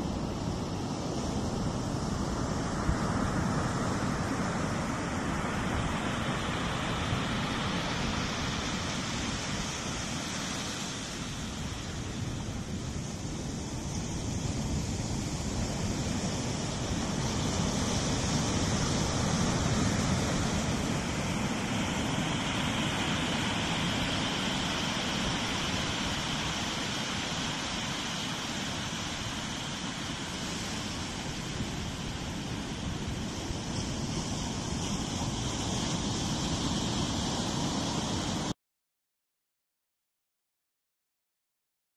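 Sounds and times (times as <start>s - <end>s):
surf breaking on a beach: 0.0s - 38.5s.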